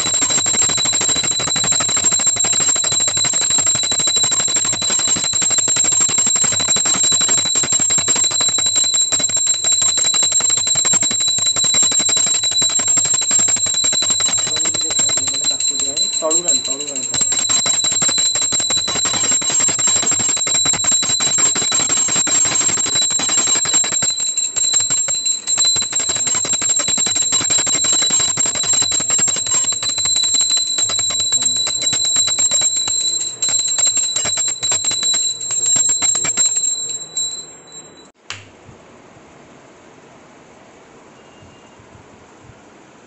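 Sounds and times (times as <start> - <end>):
bell ringing rapidly: 0.0 - 38.1.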